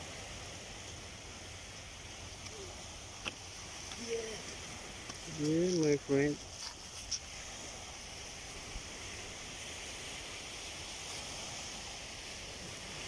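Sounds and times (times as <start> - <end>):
small waves on sandy shore: 0.0 - 13.0.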